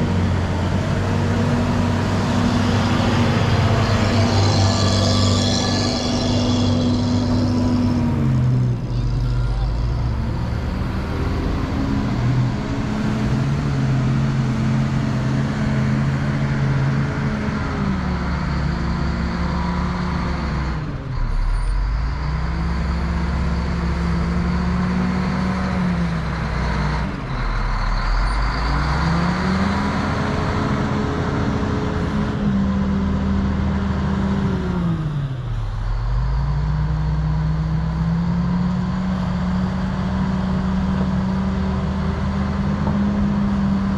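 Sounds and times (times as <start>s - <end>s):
diesel engine working: 0.0s - 43.9s.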